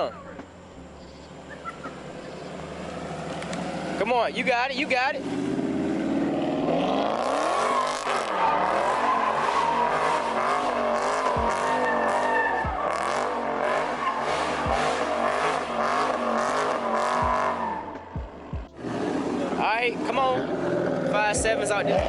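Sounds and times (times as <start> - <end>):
tyres squealing and skidding: 0.0 - 18.2, 18.8 - 22.0
car engine revving: 0.0 - 22.0.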